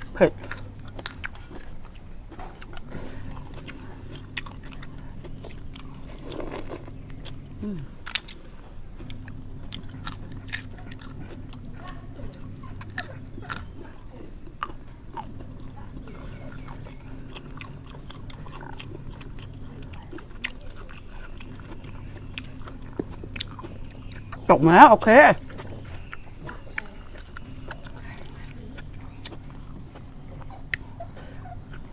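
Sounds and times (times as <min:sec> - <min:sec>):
crunchy chewing: 0:00.0 - 0:31.9
low hum: 0:00.0 - 0:31.9.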